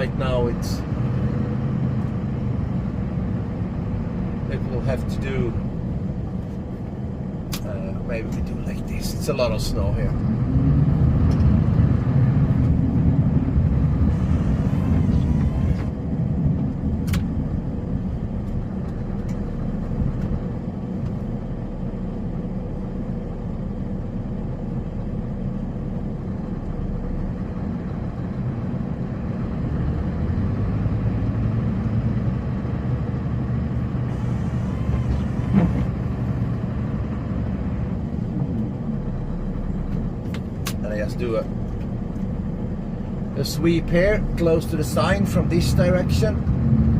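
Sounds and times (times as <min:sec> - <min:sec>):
snowplow engine droning: 0:00.0 - 0:46.9.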